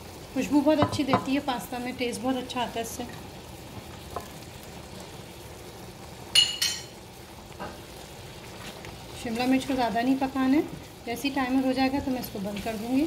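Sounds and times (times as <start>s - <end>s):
sauce sizzling and bubbling: 0.0s - 13.0s.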